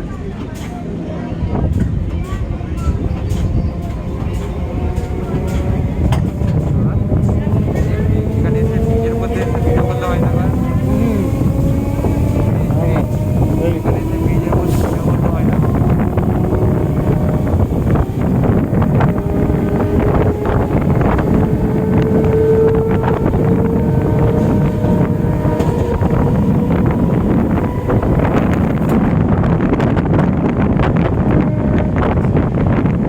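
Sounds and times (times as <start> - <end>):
train rumble and wind rush: 0.0 - 33.0
wheels clattering over rail joints: 1.7 - 29.0
train motor whine: 2.8 - 29.3.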